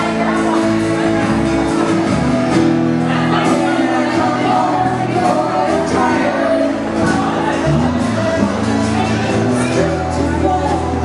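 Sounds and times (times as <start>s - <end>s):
loud music with singing: 0.0s - 11.0s.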